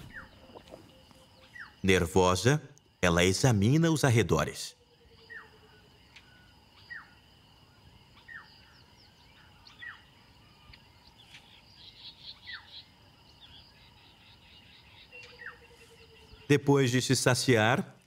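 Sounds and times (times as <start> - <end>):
birds twittering: 0.0 - 18.0
faint steady high whine: 0.0 - 18.0.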